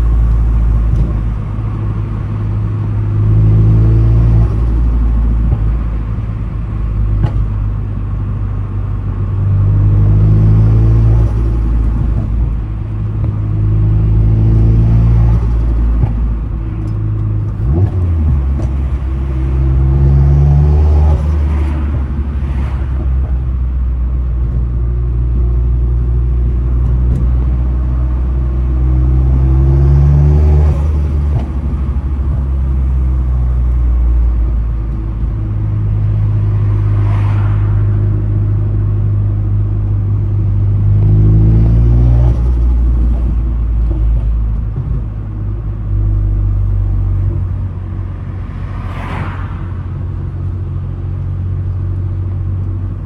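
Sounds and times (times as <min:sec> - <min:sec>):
car engine pulling under load: 0:00.0 - 0:53.0.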